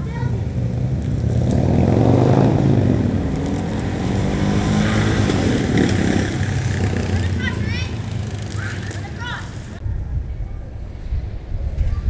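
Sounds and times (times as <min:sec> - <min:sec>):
motorcycle engine passing: 0:00.0 - 0:09.8.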